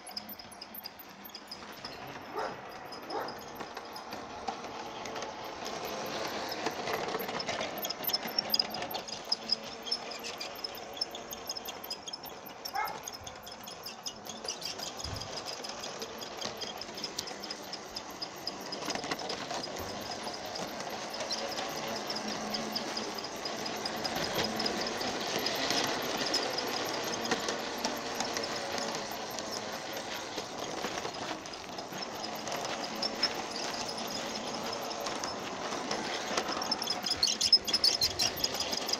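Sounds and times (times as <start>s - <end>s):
toy train motor whirring: 0.0s - 38.9s
wheels clicking on rails: 0.0s - 38.9s.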